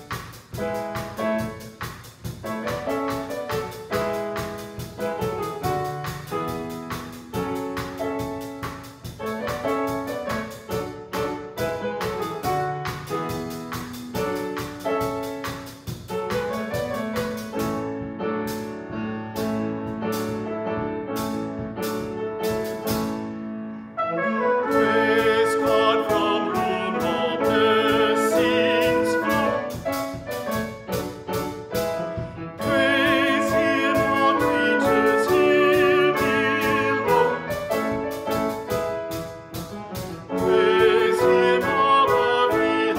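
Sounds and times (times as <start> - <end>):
drum kit with cymbals: 0.0 - 23.4, 24.5 - 42.9
grand piano playing: 0.0 - 42.9.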